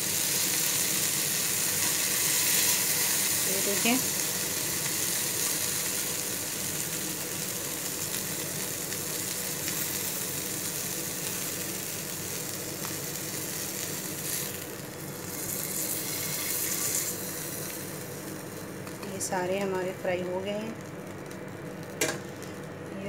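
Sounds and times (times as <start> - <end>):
food sizzling in frying pan oil: 0.0 - 23.0.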